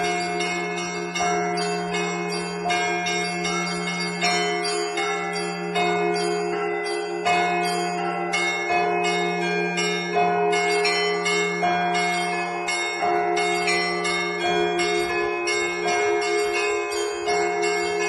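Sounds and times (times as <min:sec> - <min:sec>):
heavy bell strokes: 0:00.0 - 0:18.0
low bell humming: 0:00.0 - 0:18.0
small church bells chiming quickly: 0:00.0 - 0:18.0.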